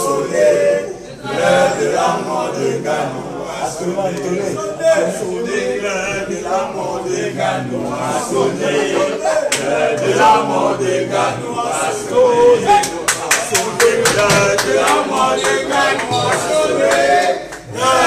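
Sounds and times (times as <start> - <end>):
crowd of men chanting: 0.0 - 18.0.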